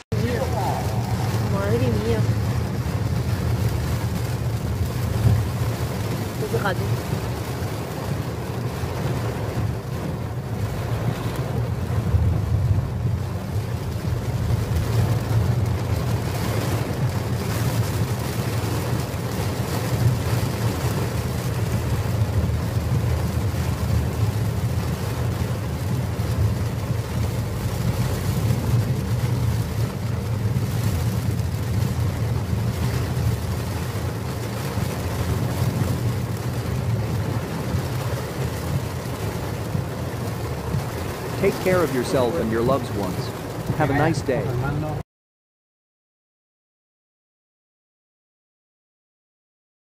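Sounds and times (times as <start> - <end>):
heavy rain: 0.0 - 45.0
car driving through floodwater: 0.1 - 45.0.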